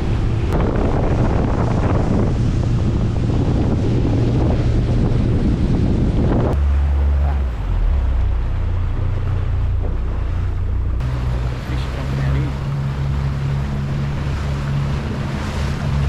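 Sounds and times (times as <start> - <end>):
boat motor running: 0.0 - 16.0
water rushing: 0.0 - 16.0
wind buffeting microphone: 0.0 - 16.0.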